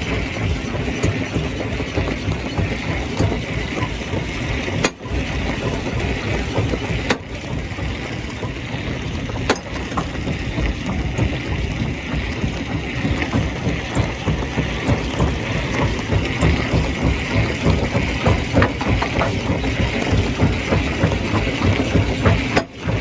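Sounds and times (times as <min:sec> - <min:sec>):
stone crusher rumbling: 0:00.0 - 0:23.0.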